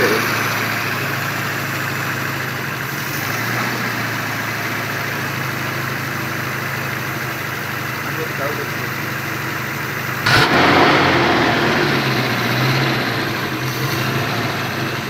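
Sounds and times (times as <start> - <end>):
petrol engine idling: 0.0 - 15.0.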